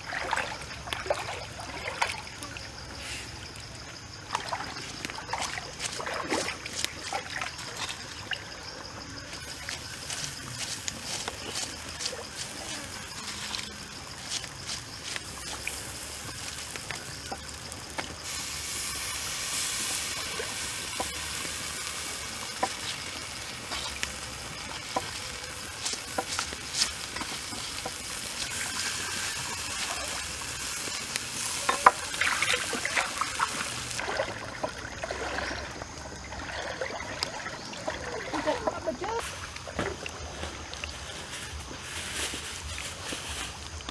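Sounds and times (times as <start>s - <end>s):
juices sizzling on hot charcoal: 0.0s - 43.9s.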